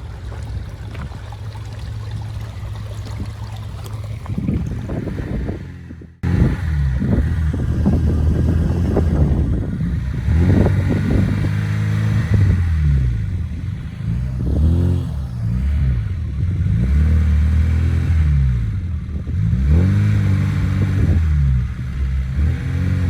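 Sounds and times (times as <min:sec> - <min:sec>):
engine revving: 0:03.9 - 0:23.0.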